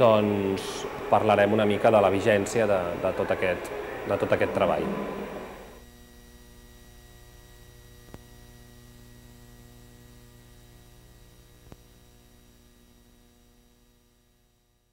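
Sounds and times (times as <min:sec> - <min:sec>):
electrical hum: 0:00.0 - 0:13.9.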